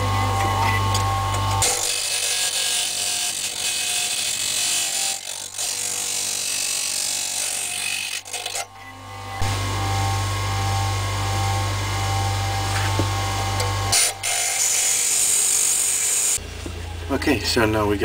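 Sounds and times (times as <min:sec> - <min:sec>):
metal grinding rasp: 0:00.0 - 0:11.0, 0:11.8 - 0:16.4.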